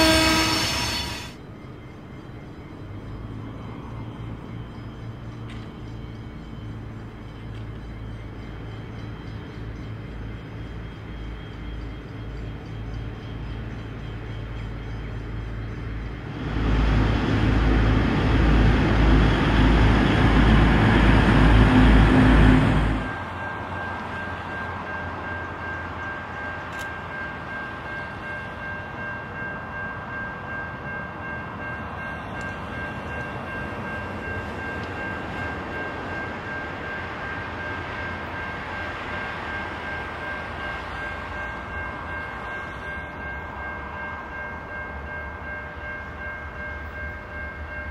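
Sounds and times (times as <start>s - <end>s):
diesel railcar passing: 0.0s - 47.9s
distant train whine: 0.0s - 47.9s
idling locomotive throb: 0.0s - 47.9s.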